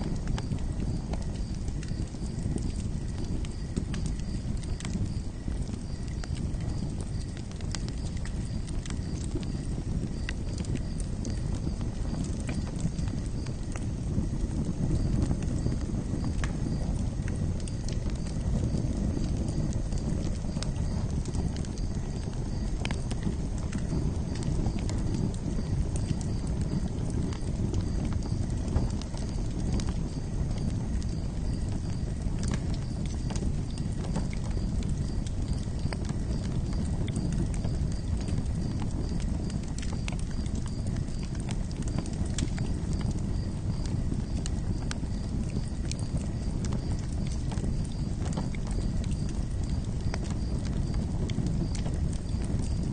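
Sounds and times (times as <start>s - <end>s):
campfire crackling: 0.0s - 52.9s
fire low rumble: 0.0s - 52.9s.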